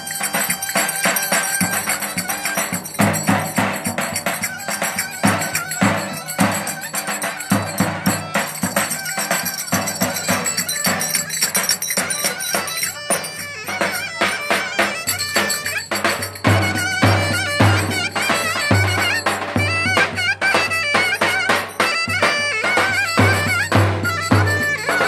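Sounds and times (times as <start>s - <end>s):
driving drum beat: 0.0s - 25.0s
jingling percussion: 0.0s - 25.0s
reedy wind instrument melody: 0.0s - 25.0s.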